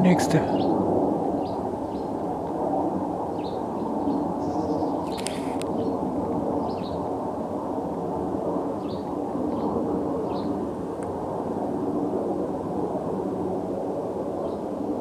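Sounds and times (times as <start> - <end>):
airplane rumble overhead: 0.0 - 15.0.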